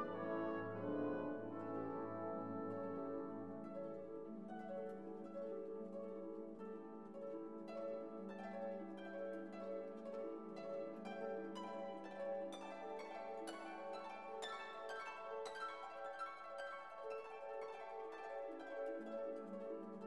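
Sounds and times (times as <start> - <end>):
gentle harp-like instrumental music: 0.0 - 20.0.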